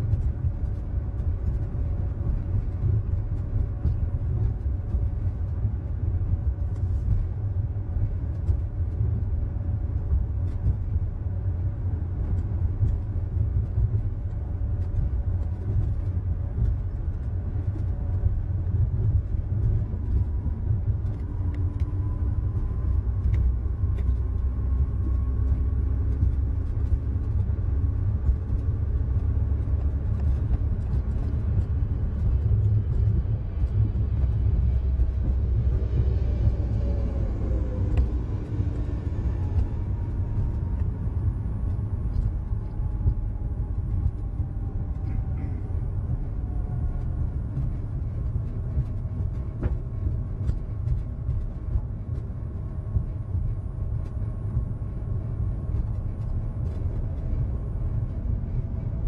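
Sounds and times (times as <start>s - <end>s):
faint whine: 0.0s - 59.0s
low rumble inside pod cabin: 0.0s - 59.0s.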